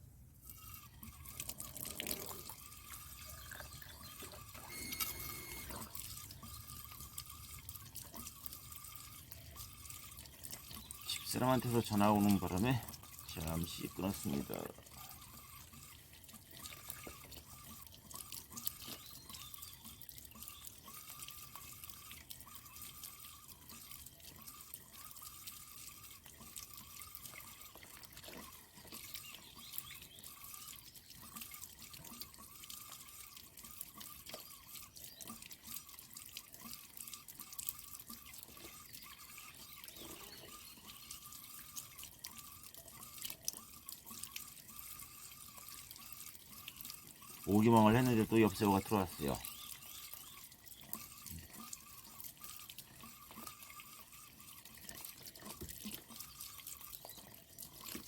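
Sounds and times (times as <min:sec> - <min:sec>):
water dripping and trickling: 0:00.0 - 0:58.0.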